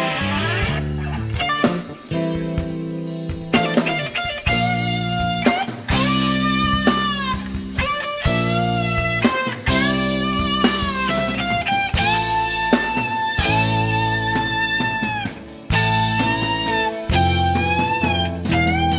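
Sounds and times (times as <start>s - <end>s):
electric guitar lead with bends: 0.0s - 18.9s
rock band chords and drums: 0.0s - 18.9s.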